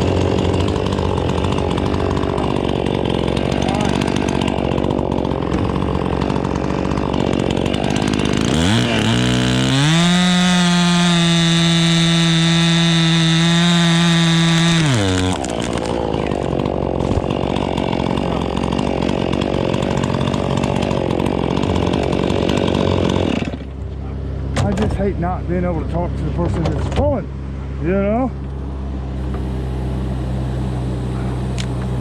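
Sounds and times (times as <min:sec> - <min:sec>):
chainsaw revving: 0:00.0 - 0:23.8, 0:29.1 - 0:32.0.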